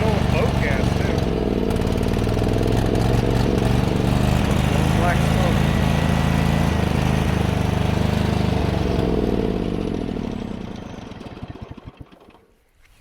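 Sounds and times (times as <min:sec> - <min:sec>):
lawn tractor engine running: 0:00.0 - 0:12.6.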